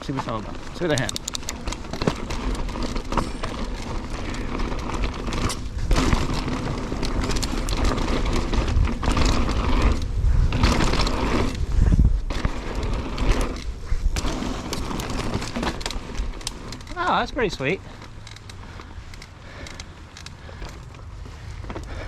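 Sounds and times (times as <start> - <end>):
bike rattles and knocks: 0.0 - 22.0
bike tyres rushing on dirt: 0.0 - 22.0.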